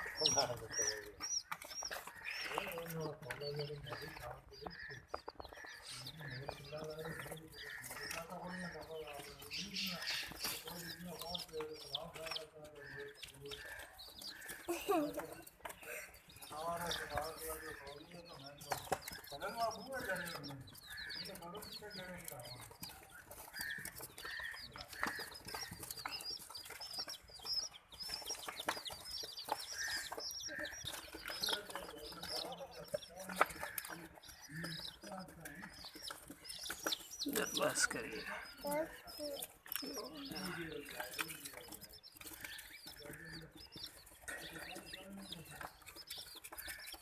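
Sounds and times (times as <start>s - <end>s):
baby chicks peeping: 0.0s - 47.0s
low clucking calls: 0.0s - 47.0s.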